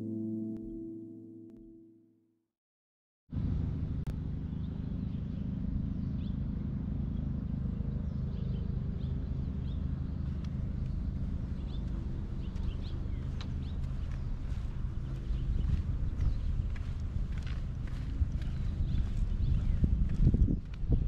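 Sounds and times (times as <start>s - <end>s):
steady low rumble: 3.4s - 21.0s
small birds chirping: 3.9s - 21.0s.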